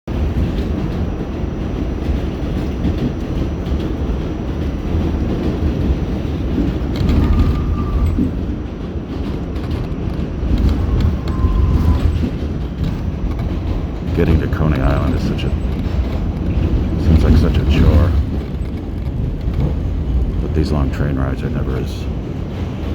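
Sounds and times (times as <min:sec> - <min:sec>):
subway train wheels rumbling: 0:00.1 - 0:22.9.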